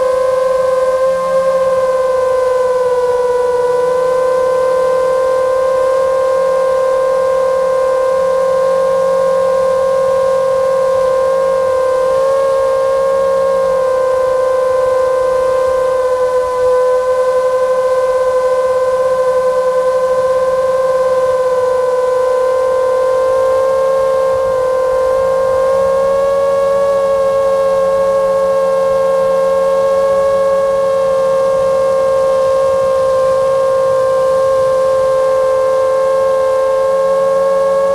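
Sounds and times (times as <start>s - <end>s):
drone motors whining: 0.0s - 37.9s.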